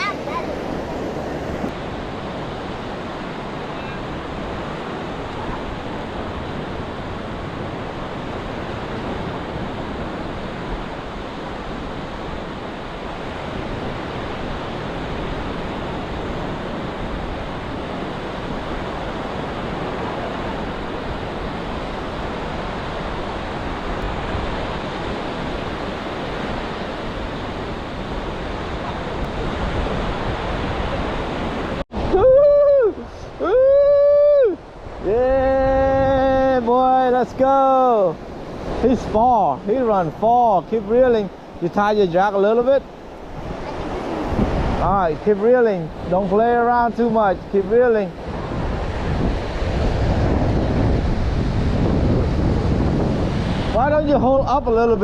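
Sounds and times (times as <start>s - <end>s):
surf breaking on shore: 0.0s - 55.0s
wind rumbling on microphone: 0.0s - 55.0s.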